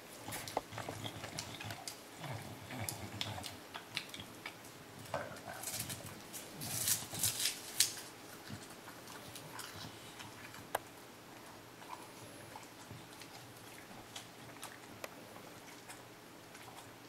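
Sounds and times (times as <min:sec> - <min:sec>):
dog licking and chewing: 0:00.2 - 0:17.0.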